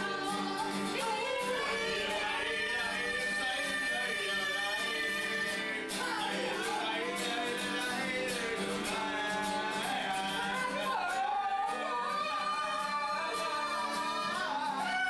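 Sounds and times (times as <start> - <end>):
guitar: 0.0 - 15.0
person singing: 0.0 - 15.0.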